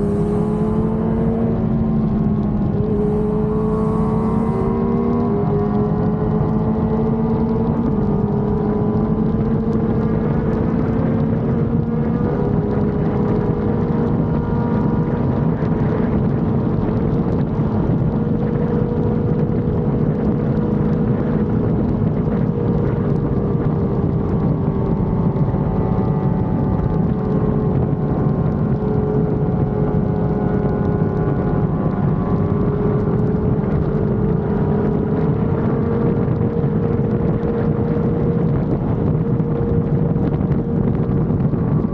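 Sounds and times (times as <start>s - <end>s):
motorcycle engine cruising: 0.0s - 41.9s
wind rushing over microphone: 0.0s - 41.9s.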